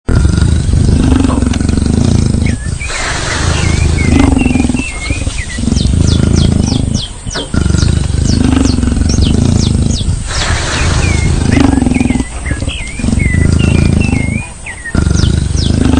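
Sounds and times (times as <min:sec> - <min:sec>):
birds chirping: 0:00.1 - 0:15.9
loud low rumble: 0:00.1 - 0:15.9.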